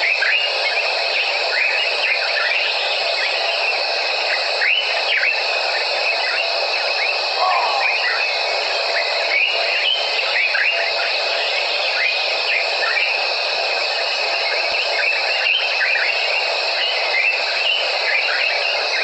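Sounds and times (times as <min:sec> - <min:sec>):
shrill of calling insects: 0:00.0 - 0:19.0.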